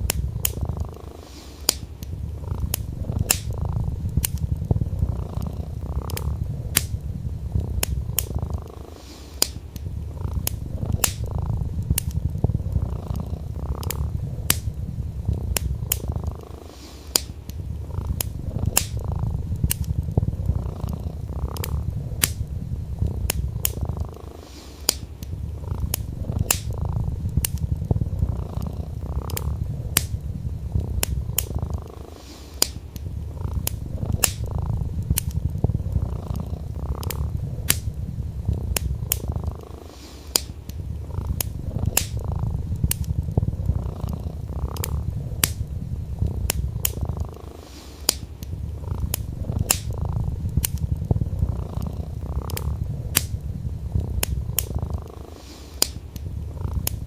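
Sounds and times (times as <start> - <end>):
cat purring: 0.0 - 57.0
wood fire crackling and popping: 0.0 - 57.0.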